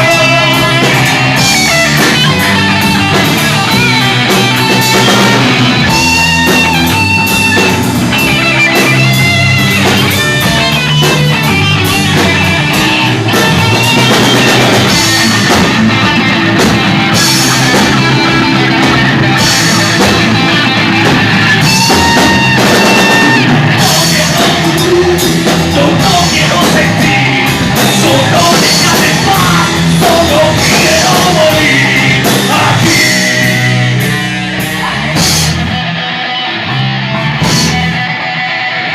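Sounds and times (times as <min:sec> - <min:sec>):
drum kit: 0:00.0 - 0:38.9
electric guitars: 0:00.0 - 0:38.9.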